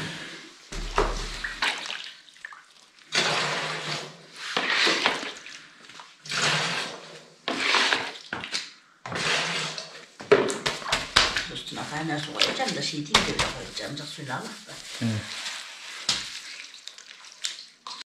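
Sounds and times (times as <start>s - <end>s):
whey splashing into plastic basin: 0.0s - 14.0s, 15.2s - 18.0s.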